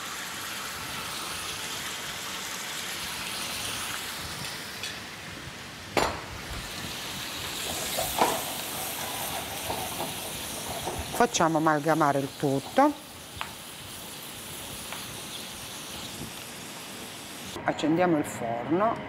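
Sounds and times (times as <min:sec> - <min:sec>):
food sizzling in a frying pan: 0:00.0 - 0:17.6.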